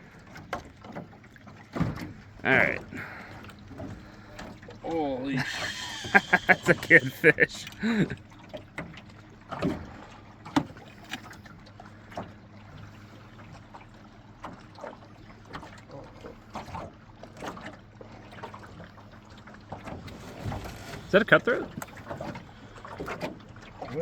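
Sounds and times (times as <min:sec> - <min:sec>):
faint water: 0:00.0 - 0:24.0
knocks and clatter in boat: 0:00.0 - 0:24.0.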